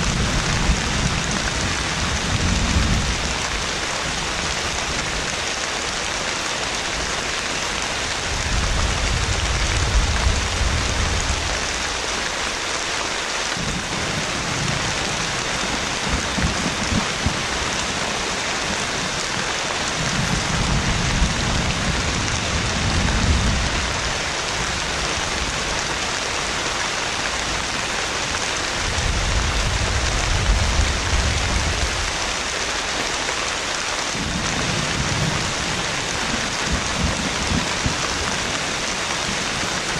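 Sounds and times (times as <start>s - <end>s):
thunder rumbling: 0.0s - 5.5s, 7.7s - 12.6s, 13.5s - 39.9s
heavy rain pouring: 0.0s - 39.9s.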